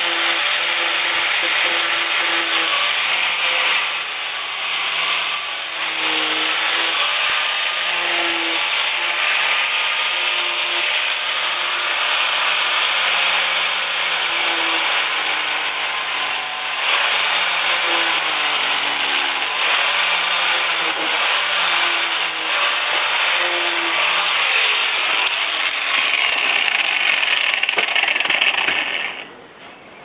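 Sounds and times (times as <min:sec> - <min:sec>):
power tool on wood: 0:00.0 - 0:29.4.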